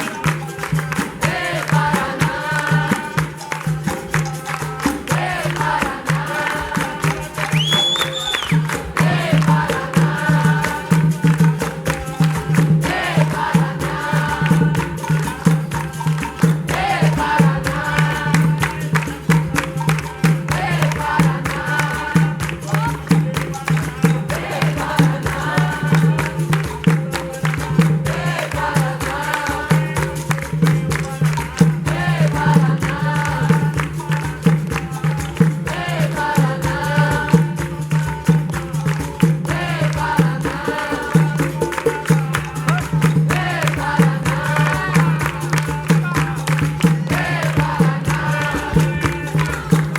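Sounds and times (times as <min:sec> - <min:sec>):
group singing: 0:00.0 - 0:49.9
steady percussion: 0:00.0 - 0:49.9
tambourine-like jingle: 0:00.0 - 0:49.9.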